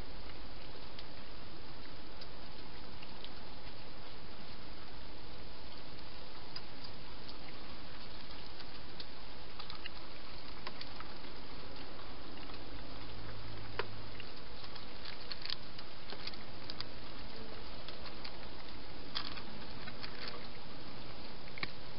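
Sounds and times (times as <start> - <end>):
microphone hiss: 0.0 - 21.9
soft clicks and ticks: 0.1 - 21.9.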